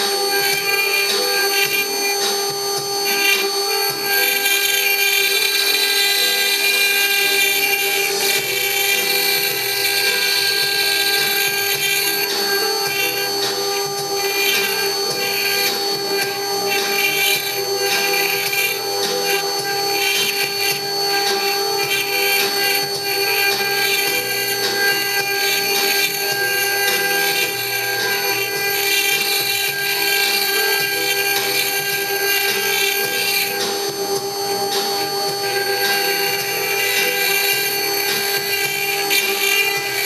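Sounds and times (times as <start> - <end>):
router spindle whine: 0.0 - 40.0
scratchy cutting hiss: 0.0 - 40.0.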